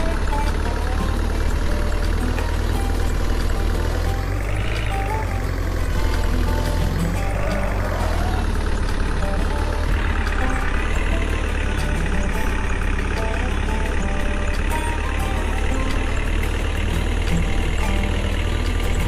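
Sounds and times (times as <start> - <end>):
small tractor engine running: 0.0 - 19.0.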